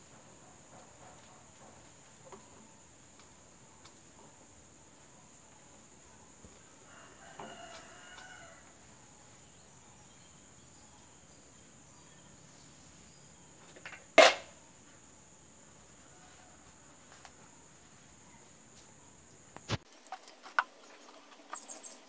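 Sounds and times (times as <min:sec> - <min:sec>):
low steady hiss: 0:00.0 - 0:22.0.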